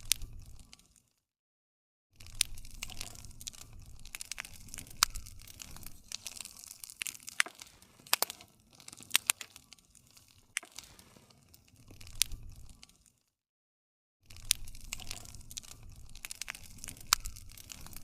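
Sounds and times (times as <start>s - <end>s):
campfire crackling and popping: 0.0s - 1.1s, 2.2s - 13.2s, 14.3s - 18.0s.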